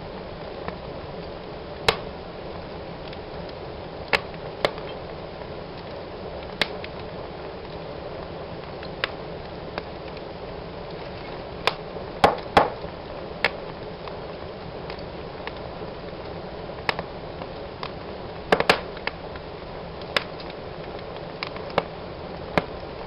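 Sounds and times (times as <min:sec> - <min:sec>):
fire crackling in a fireplace: 0:00.0 - 0:23.0.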